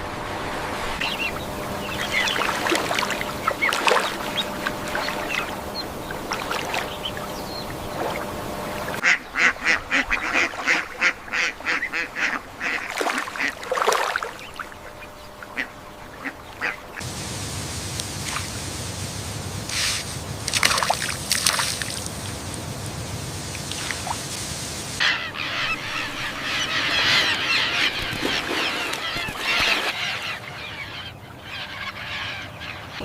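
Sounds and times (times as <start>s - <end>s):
steady background hiss: 0.0s - 9.0s, 10.5s - 33.0s
birds calling: 0.0s - 33.0s.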